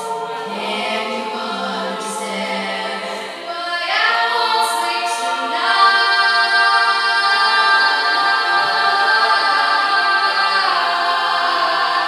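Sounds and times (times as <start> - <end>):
a cappella group singing: 0.0 - 12.0.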